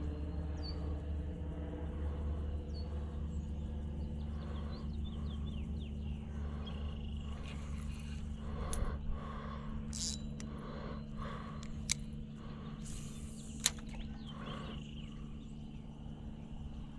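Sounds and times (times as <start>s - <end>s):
low outdoor rumble: 0.0s - 16.9s
small birds chirping: 2.6s - 16.9s.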